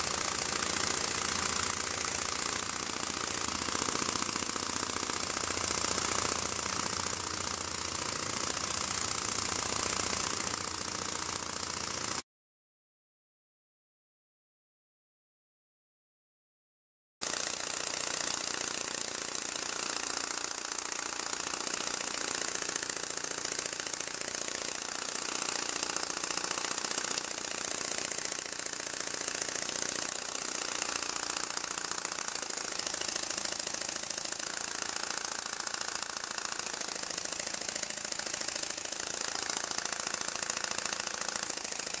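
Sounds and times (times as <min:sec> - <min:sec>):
rapid mechanical buzz of wings: 0:00.0 - 0:12.2, 0:17.2 - 0:42.0.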